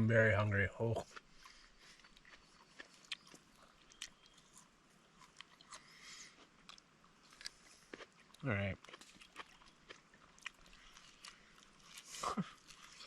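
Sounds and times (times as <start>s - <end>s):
faint chewing: 0.9s - 13.0s.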